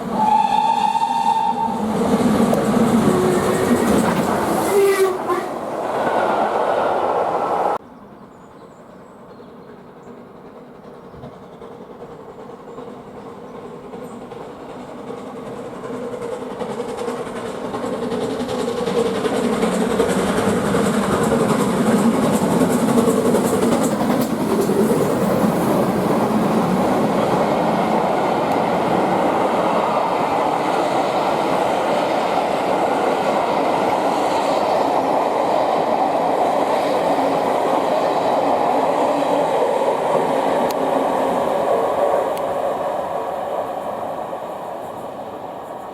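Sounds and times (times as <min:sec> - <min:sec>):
train passing: 0:00.0 - 0:45.9
train wheels on rails: 0:00.0 - 0:45.9.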